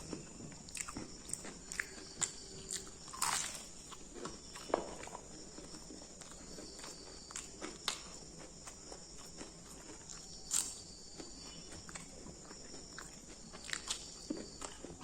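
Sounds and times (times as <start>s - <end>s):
chewing crunchy food: 0.0s - 15.0s
insects chirring: 0.0s - 15.0s.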